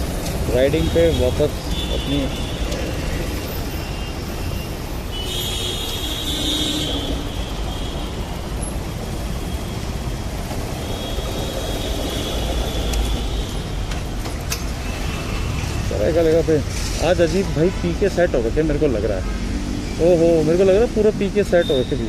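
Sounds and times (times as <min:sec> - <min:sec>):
cars passing: 0:00.0 - 0:22.0
road and wind noise: 0:00.0 - 0:22.0.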